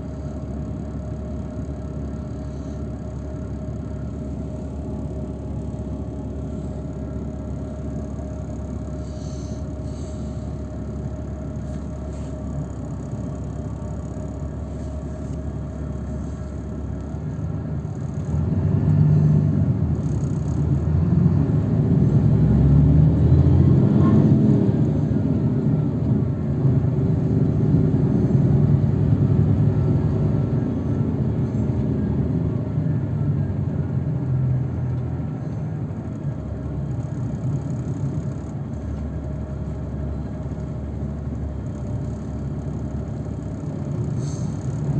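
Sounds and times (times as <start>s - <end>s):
road noise: 0.0s - 44.9s
vehicle engine rumble: 0.0s - 44.9s.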